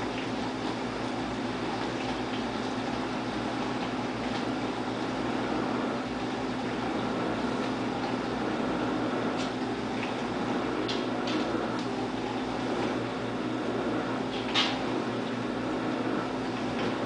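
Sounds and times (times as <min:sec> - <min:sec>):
background hum and hiss: 0:00.0 - 0:17.0.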